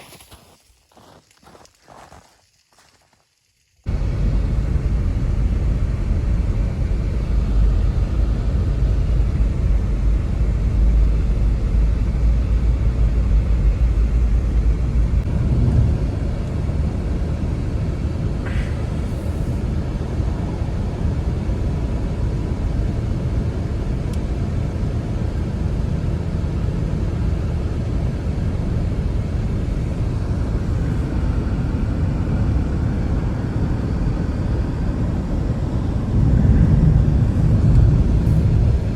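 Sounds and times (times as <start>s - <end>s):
strong wind rumbling: 3.9s - 38.9s.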